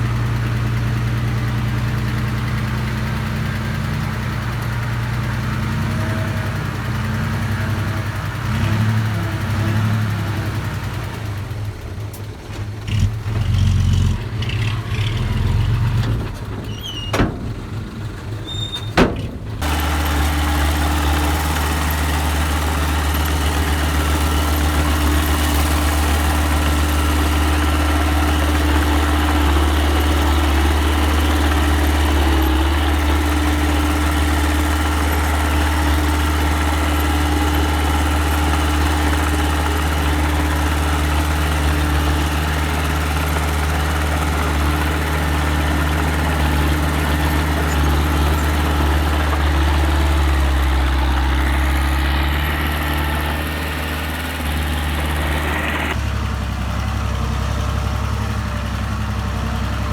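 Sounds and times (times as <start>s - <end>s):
small digger engine humming: 0.0s - 59.9s.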